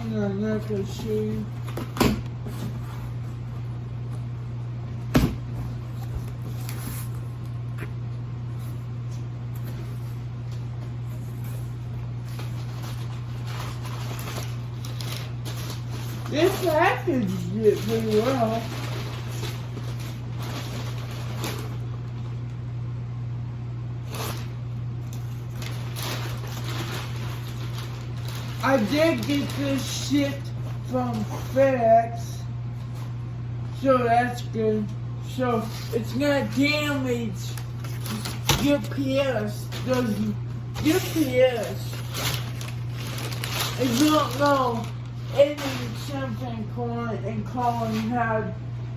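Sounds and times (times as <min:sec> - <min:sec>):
cardboard and plastic rustling: 0:00.0 - 0:04.3, 0:05.1 - 0:07.9, 0:08.6 - 0:22.4, 0:24.0 - 0:31.9, 0:35.6 - 0:48.4
steady low hum: 0:00.0 - 0:48.9.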